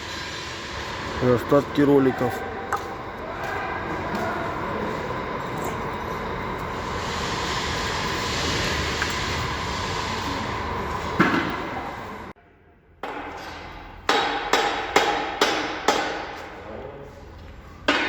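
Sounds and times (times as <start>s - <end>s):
steady rushing workshop noise: 0.0s - 12.4s, 13.0s - 18.0s.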